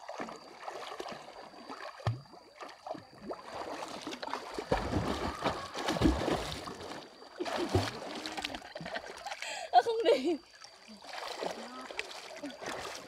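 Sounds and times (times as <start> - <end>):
water gurgling and sloshing: 0.0 - 13.0.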